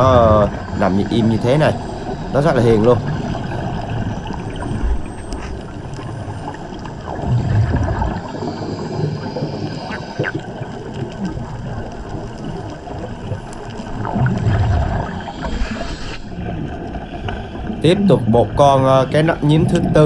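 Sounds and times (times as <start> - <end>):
underwater air bubbles gurgling: 0.0 - 20.0.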